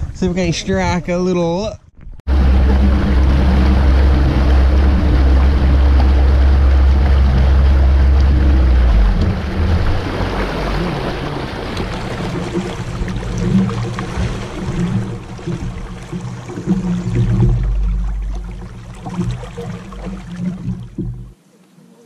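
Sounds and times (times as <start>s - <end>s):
water noise: 0.0s - 22.0s
outboard motor running: 2.2s - 21.4s.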